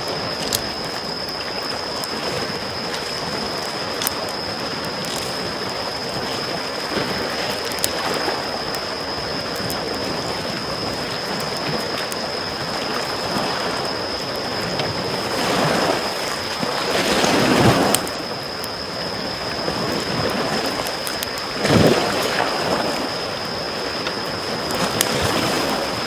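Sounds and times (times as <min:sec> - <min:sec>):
campfire crackling: 0:00.0 - 0:26.0
small waves washing onto shore: 0:00.0 - 0:26.0.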